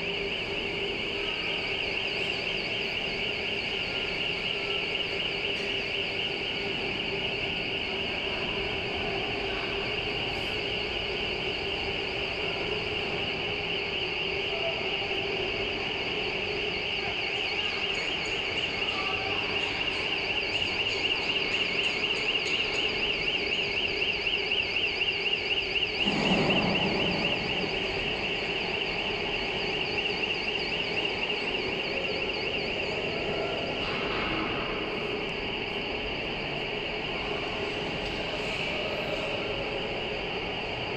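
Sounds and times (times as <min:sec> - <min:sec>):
warbling electronic alarm: 0:00.0 - 0:40.9.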